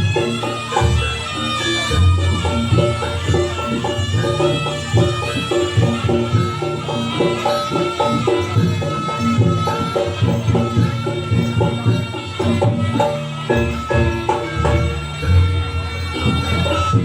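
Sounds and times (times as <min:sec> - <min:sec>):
hand drum strokes: 0:00.0 - 0:17.0
metallophone notes: 0:00.0 - 0:17.0.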